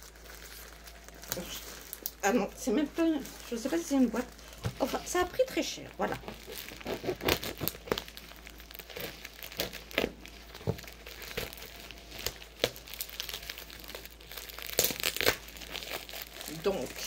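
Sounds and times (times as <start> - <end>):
packaging crinkling and rustling: 0.0 - 17.0.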